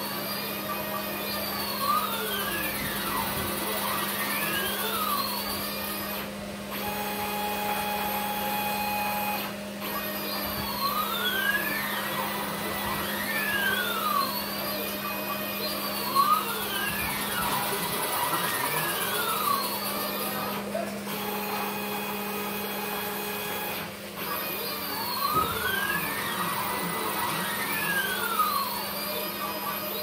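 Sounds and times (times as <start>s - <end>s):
stepper motors whining: 0.0s - 30.0s.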